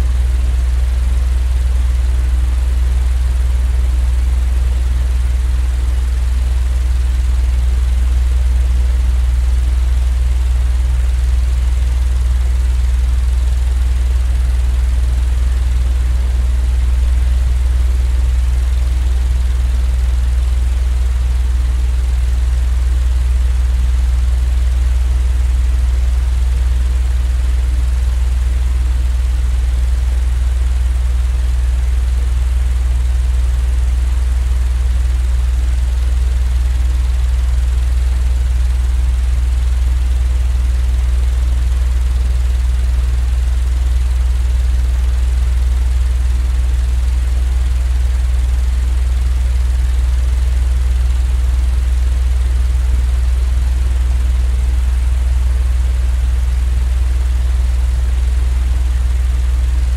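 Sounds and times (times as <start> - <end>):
steady low drone with hiss: 0.0 - 53.2, 58.7 - 59.9.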